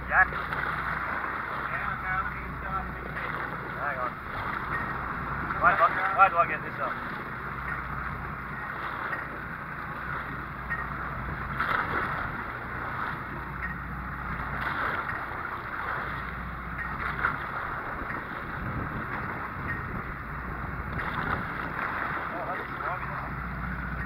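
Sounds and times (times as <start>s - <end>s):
low steady hum: 0.0s - 24.0s
sea noise: 0.0s - 24.0s
wind: 0.0s - 24.0s.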